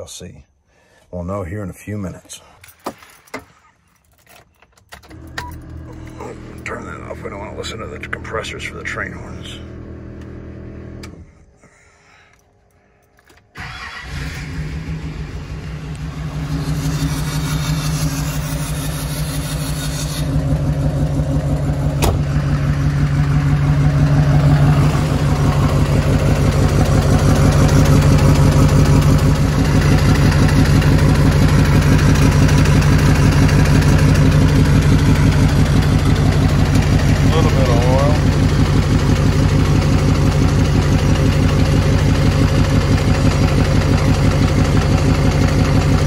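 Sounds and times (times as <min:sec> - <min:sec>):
diesel engine starting and idling: 0:04.9 - 0:11.6, 0:12.3 - 0:46.0.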